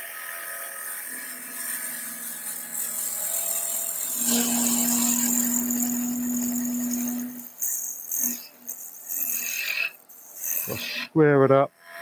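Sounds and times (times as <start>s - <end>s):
turning tool cutting wood hiss: 0.0s - 12.0s
wood lathe motor hum: 0.0s - 12.0s.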